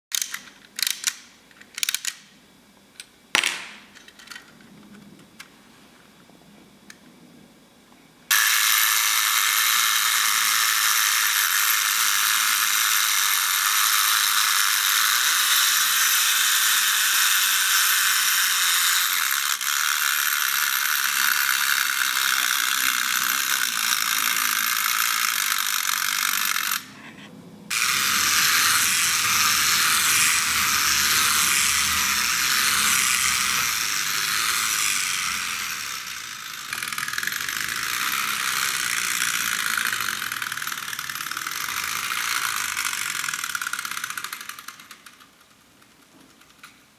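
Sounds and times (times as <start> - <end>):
wind-up toy whirring rattle: 0.1 - 2.3, 8.3 - 26.9, 27.7 - 46.6.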